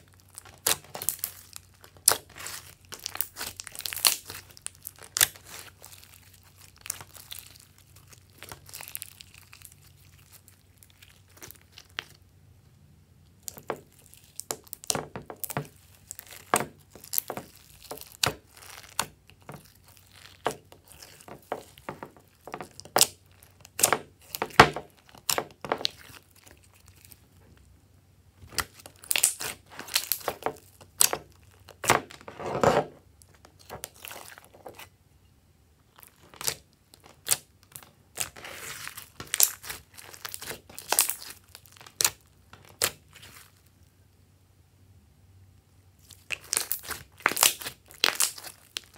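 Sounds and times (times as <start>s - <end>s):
slime crackling: 0.0s - 12.3s, 13.3s - 27.4s, 28.4s - 34.9s, 35.8s - 43.8s, 46.0s - 48.9s.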